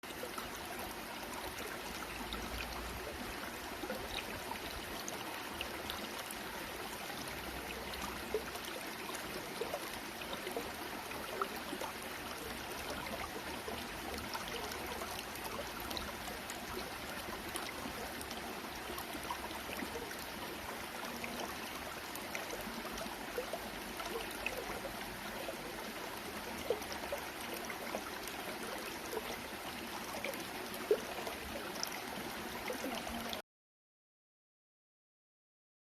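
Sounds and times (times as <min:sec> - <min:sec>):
water trickling: 0:00.1 - 0:33.4.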